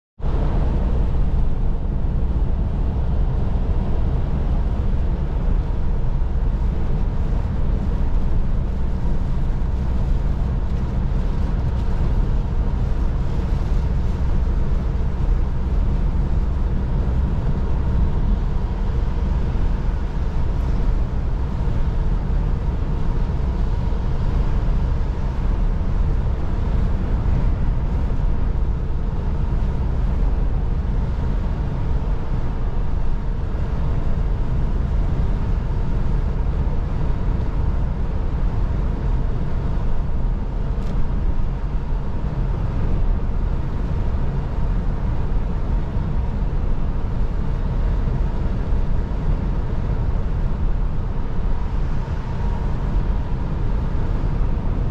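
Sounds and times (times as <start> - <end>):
diesel engine drone: 0.2 - 54.9.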